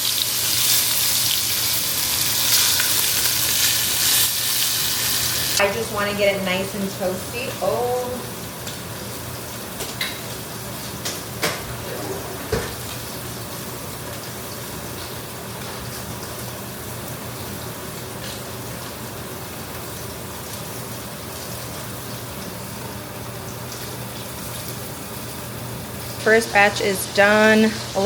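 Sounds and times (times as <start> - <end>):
meat sizzling in a hot pan: 0.0 - 11.4, 12.7 - 28.0.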